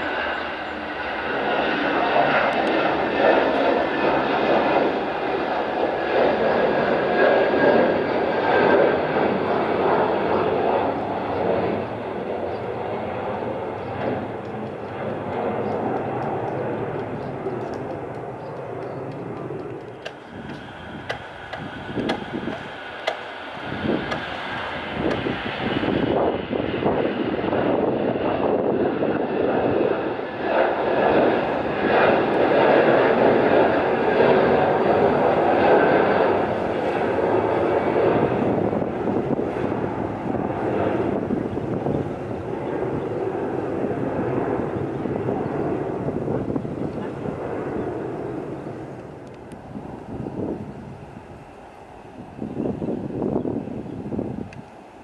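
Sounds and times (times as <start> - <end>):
jet engines at takeoff power: 0.0 - 55.0.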